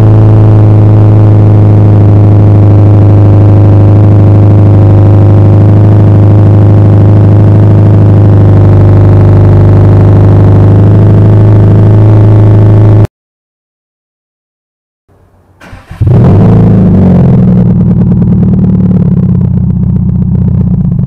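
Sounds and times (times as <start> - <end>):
car engine idling: 0.2 - 11.4, 15.1 - 21.0.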